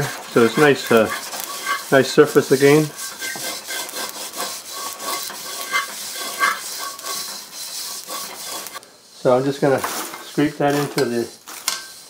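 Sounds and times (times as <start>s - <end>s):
salt scraping inside a wok: 0.0s - 12.0s.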